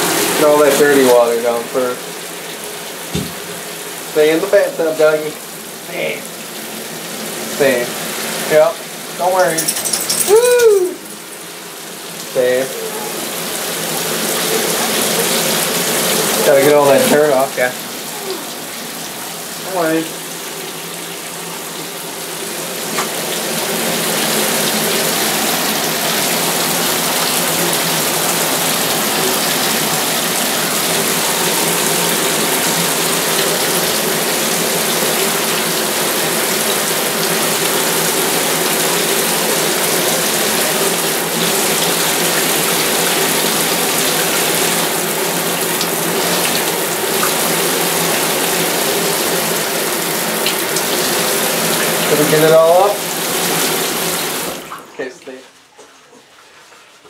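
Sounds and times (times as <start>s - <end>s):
water pouring into bathtub: 0.0s - 55.4s.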